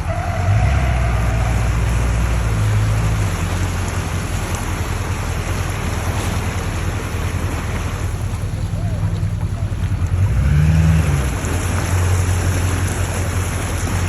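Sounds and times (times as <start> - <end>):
low engine hum: 0.0 - 14.0
water rushing around vehicle: 0.0 - 14.0.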